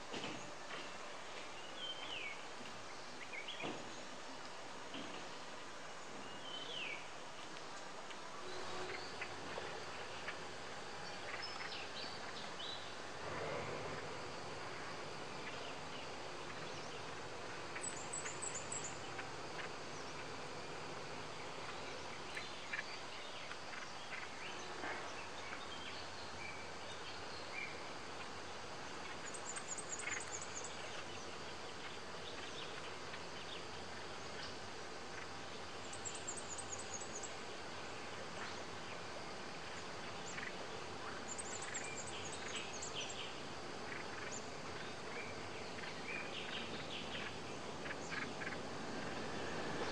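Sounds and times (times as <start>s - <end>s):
background hiss: 0.0s - 49.9s
insects: 0.0s - 49.9s
birds calling: 4.9s - 49.9s.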